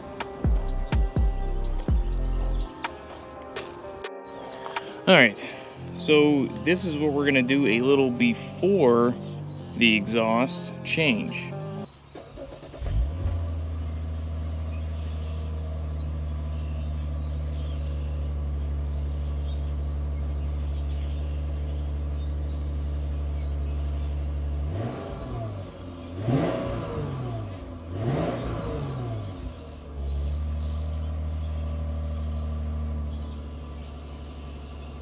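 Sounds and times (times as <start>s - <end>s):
car engine idling: 0.0s - 35.0s
engine revving: 0.0s - 35.0s.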